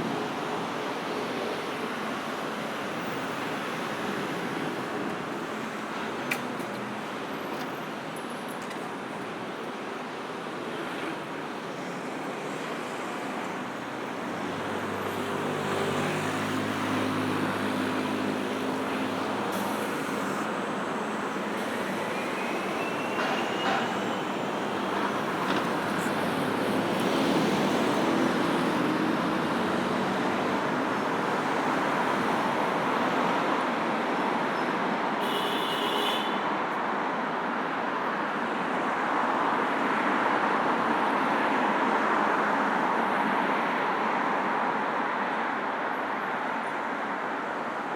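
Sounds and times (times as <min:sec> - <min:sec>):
road traffic rushing: 0:00.0 - 0:47.9.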